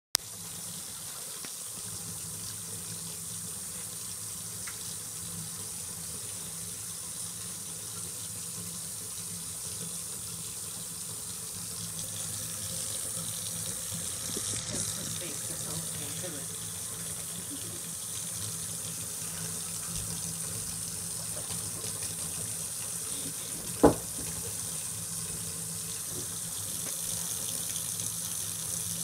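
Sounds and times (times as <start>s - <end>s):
faucet running into sink: 0.3s - 29.0s.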